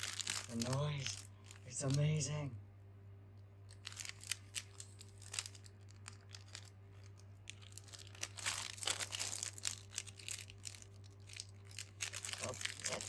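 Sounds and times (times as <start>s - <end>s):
packaging wrapper crinkling: 0.0s - 2.0s, 3.7s - 13.0s.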